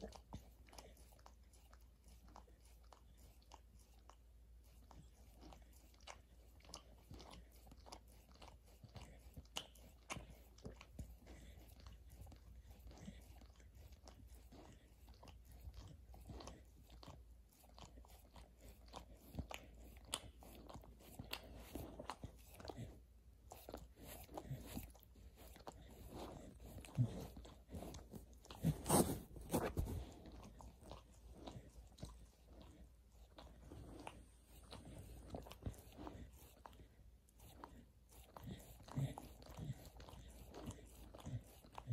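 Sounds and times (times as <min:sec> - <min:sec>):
dog chewing and crunching: 0:00.0 - 0:41.9.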